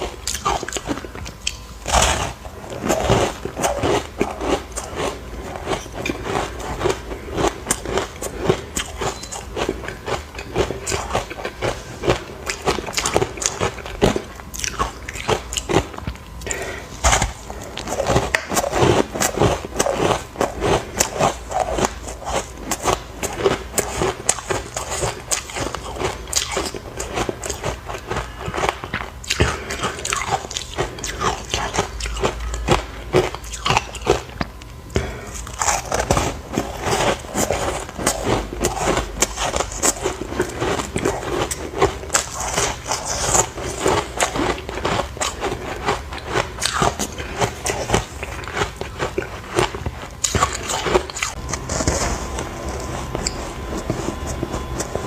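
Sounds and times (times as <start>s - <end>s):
ice being chewed: 0.0s - 55.0s.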